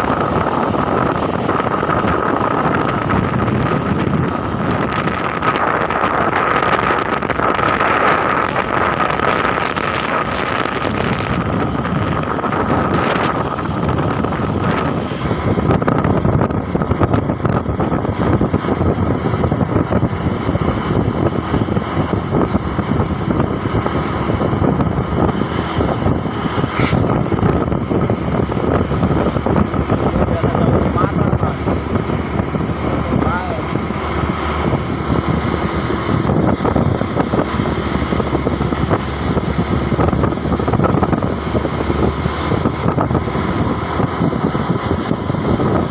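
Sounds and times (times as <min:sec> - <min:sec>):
vehicle engine at speed: 0:00.0 - 0:45.9
wind buffeting microphone: 0:00.0 - 0:45.9.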